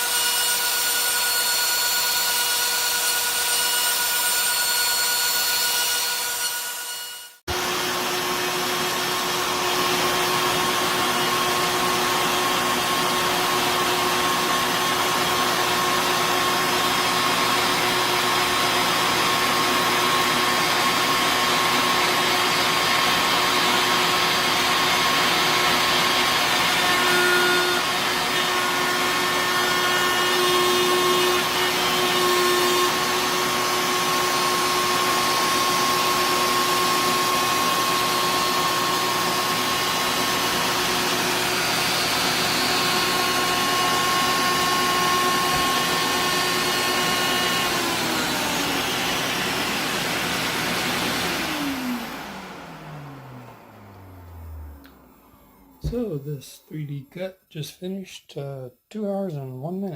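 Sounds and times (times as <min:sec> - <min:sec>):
router cutting wood: 0:00.0 - 0:56.3
shop vacuum running: 0:00.0 - 0:56.4.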